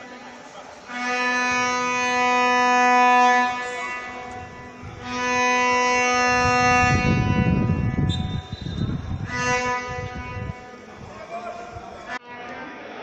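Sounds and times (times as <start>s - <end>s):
vuvuzela blasts: 0.8s - 12.2s.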